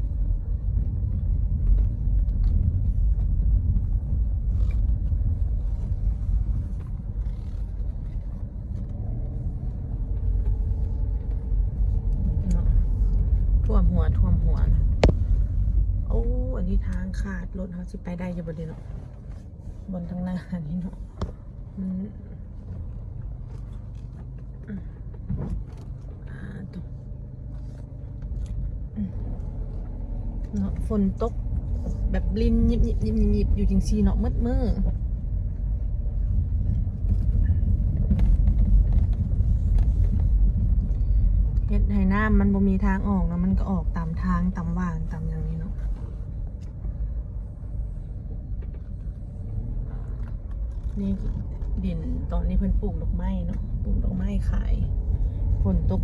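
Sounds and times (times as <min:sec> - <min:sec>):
vehicle rumbling on dirt road: 0:00.0 - 0:56.0.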